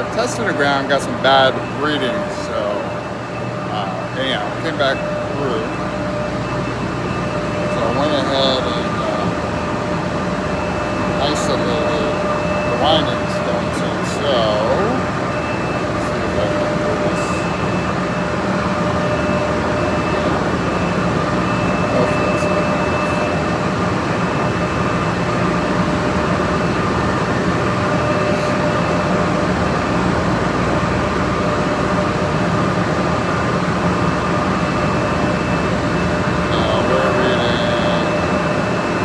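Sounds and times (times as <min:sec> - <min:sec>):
constant high whine: 0:00.0 - 0:39.0
machinery drone: 0:00.0 - 0:39.0.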